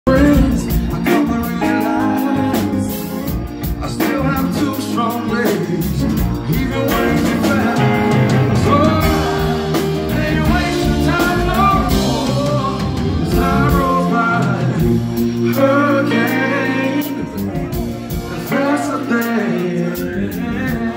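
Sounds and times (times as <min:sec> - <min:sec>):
drum kit: 0:00.0 - 0:20.9
electric guitar: 0:00.0 - 0:20.9
man singing: 0:00.0 - 0:20.9.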